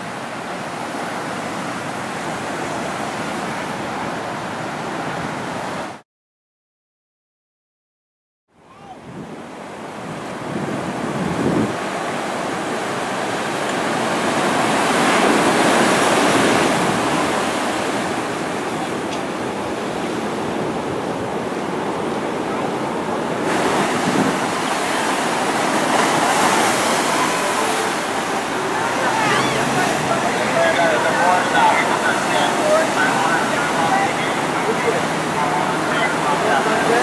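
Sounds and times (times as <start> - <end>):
ocean surf breaking: 0.0 - 6.0, 8.9 - 37.0.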